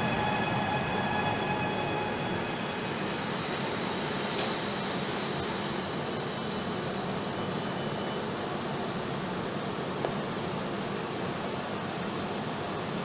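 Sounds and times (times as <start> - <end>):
electric train running noise: 0.0 - 11.3.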